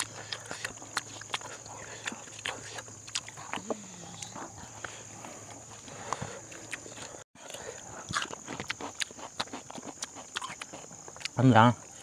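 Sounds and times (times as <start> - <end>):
people chewing and smacking: 0.0 - 12.0.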